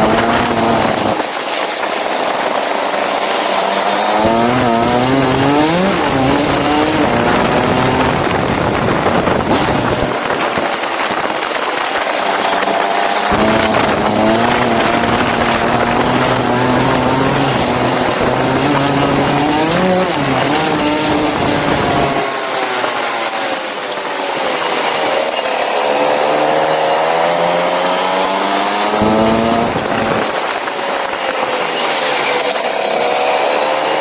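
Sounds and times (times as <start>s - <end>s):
go-kart engine accelerating: 0.0s - 34.0s.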